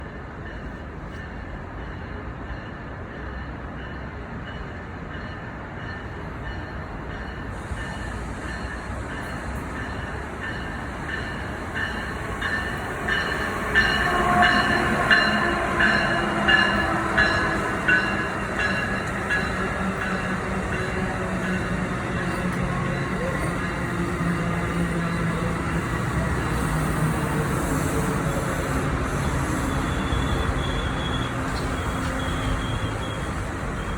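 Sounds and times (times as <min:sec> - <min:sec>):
low train rumble: 0:00.0 - 0:33.9.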